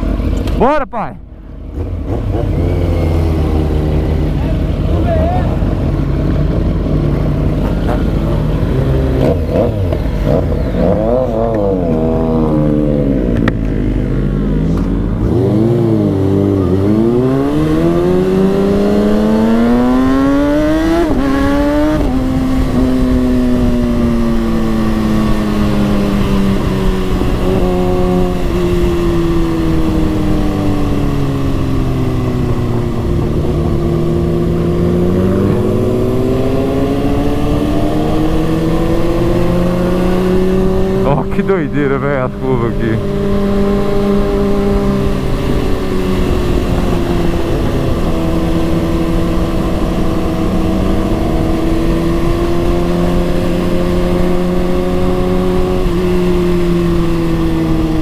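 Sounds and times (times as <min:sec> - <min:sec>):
motorcycle engine revving: 0:01.4 - 0:58.0.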